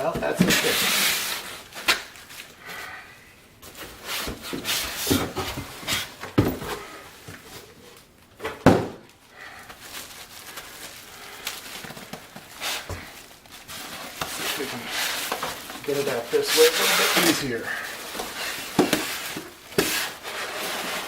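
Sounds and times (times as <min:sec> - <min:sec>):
styrofoam scraping and rubbing: 0:00.0 - 0:03.0, 0:03.7 - 0:06.2, 0:09.5 - 0:21.0.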